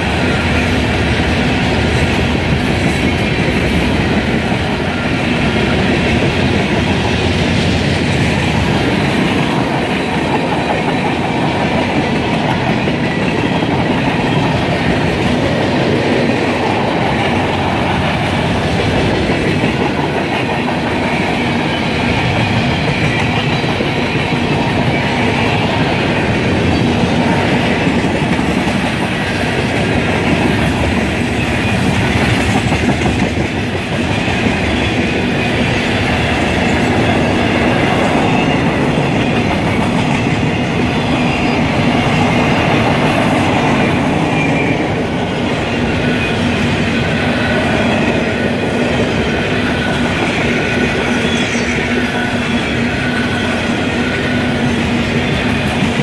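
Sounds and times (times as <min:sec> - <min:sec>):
freight train wheels on rails: 0:00.0 - 0:56.0.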